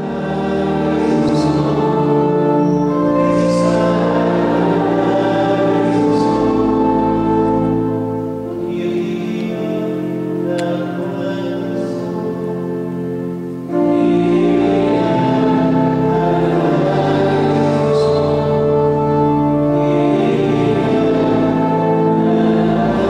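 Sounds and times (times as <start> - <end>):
choir singing held notes: 0.0 - 23.0.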